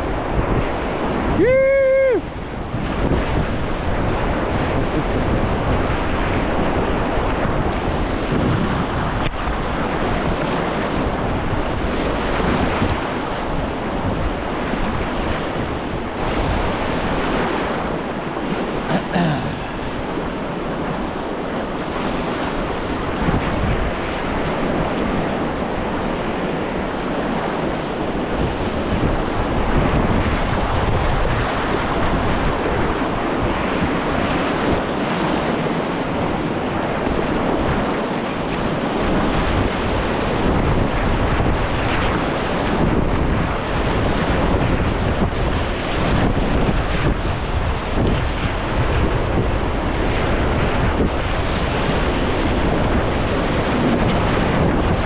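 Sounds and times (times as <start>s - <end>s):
whitewater rushing and splashing: 0.0s - 55.0s
wind buffeting microphone: 0.0s - 55.0s.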